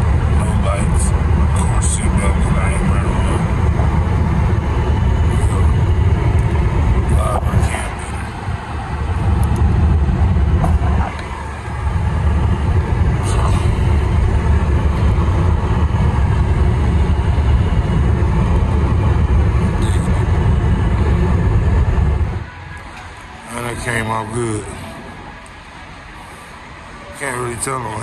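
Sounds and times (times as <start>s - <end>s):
car cabin road rumble: 0.0s - 24.2s.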